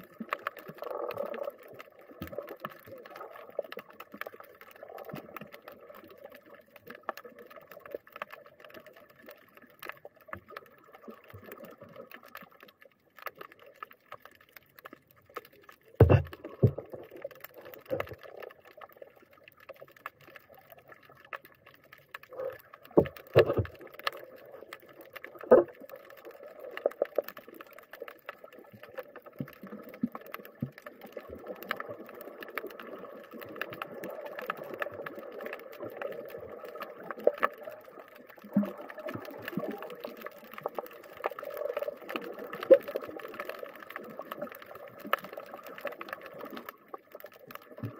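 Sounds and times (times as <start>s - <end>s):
faint clicks: 0.0s - 47.9s.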